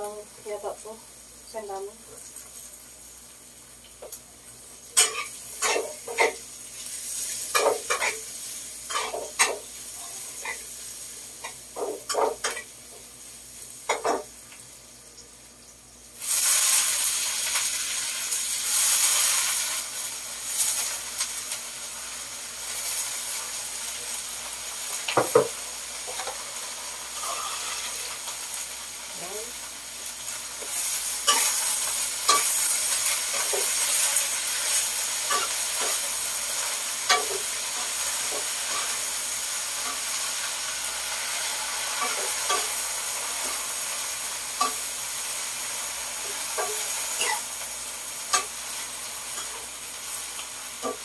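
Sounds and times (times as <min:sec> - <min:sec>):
cabbage sizzling in hot oil: 0:00.0 - 0:51.0.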